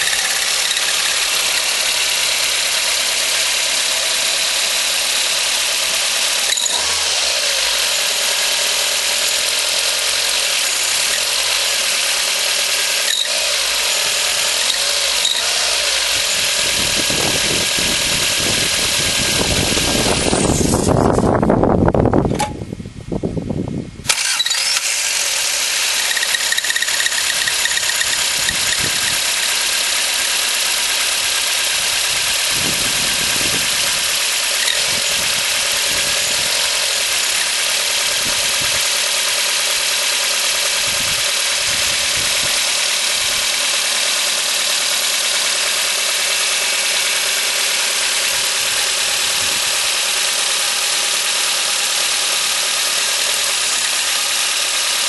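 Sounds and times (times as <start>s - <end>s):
car running with steady hiss: 0.0s - 55.0s.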